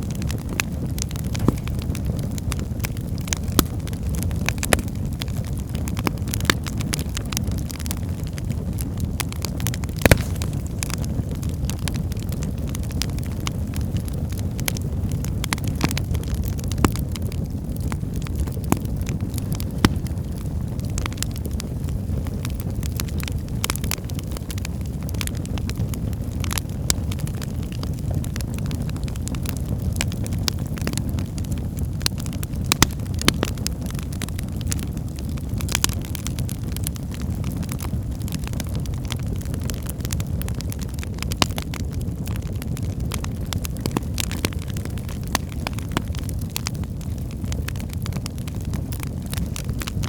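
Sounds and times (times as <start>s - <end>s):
fire burning with crackles: 0.0s - 50.0s.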